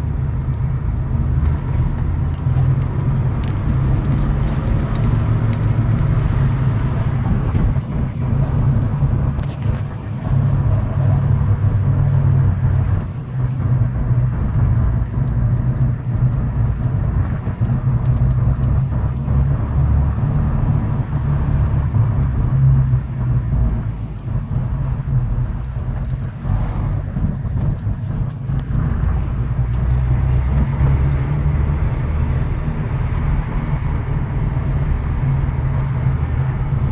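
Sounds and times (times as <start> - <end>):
car engine droning: 0.0 - 36.9
strange engine noise: 0.0 - 36.9.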